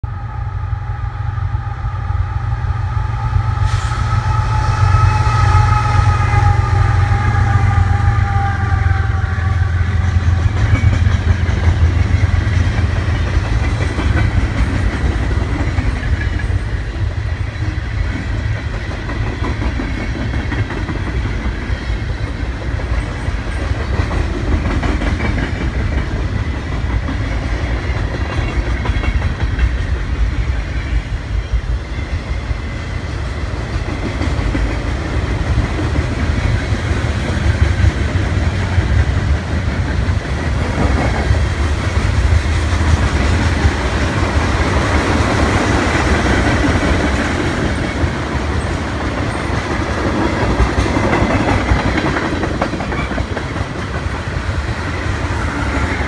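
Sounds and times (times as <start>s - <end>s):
diesel locomotives rumbling: 0.0s - 56.0s.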